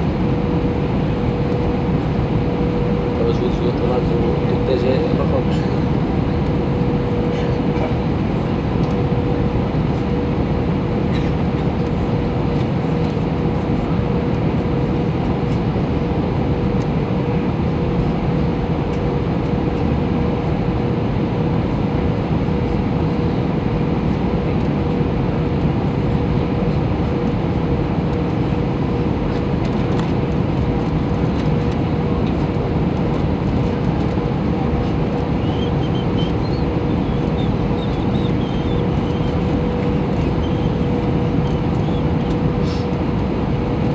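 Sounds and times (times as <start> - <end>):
airliner cabin engine rumble: 0.0 - 43.9
steady hum tone: 0.0 - 43.9.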